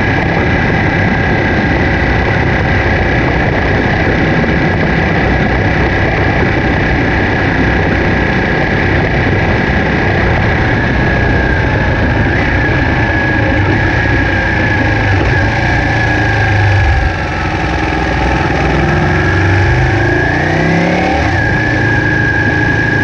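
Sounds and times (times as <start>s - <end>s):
motorcycle downshifting: 0.0s - 23.0s
motorcycle engine running: 0.0s - 23.0s
rushing air noise: 0.0s - 23.0s.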